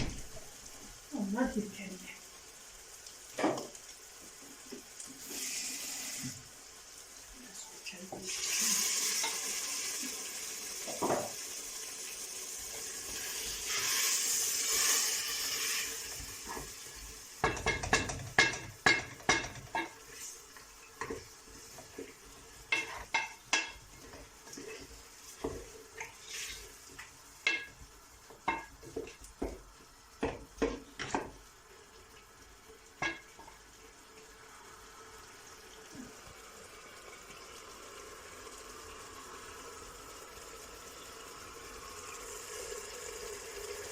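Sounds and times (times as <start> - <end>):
steady hiss: 0.0 - 43.9.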